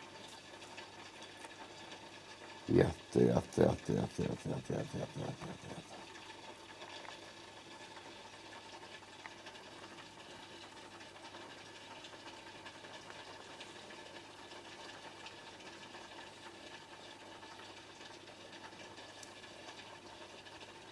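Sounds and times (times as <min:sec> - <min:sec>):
faint bubbling and crackles: 0:00.0 - 0:20.9.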